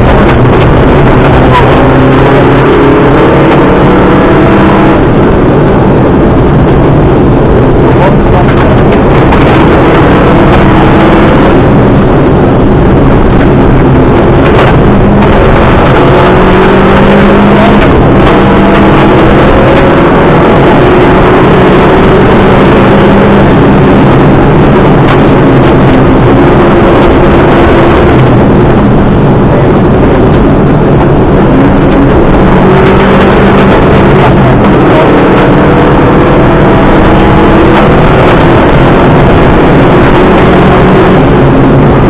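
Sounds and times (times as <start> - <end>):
rally car engine revving: 0.0 - 42.0
tyre and road noise: 0.0 - 42.0.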